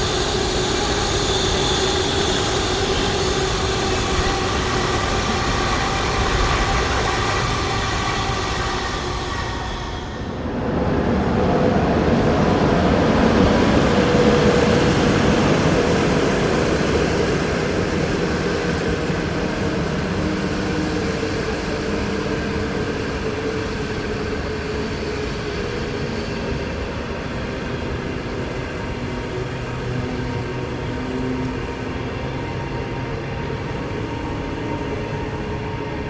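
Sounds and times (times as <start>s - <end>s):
train rolling past: 0.0s - 36.0s.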